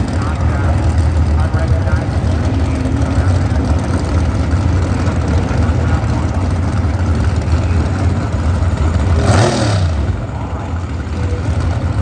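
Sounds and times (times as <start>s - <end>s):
dragster engines idling: 0.0s - 12.0s.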